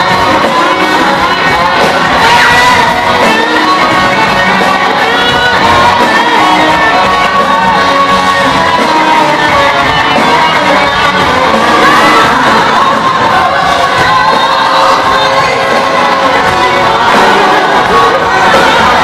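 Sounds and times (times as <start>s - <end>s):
crowd shouts: 0.0s - 19.0s
live rock band with singing: 0.0s - 19.0s.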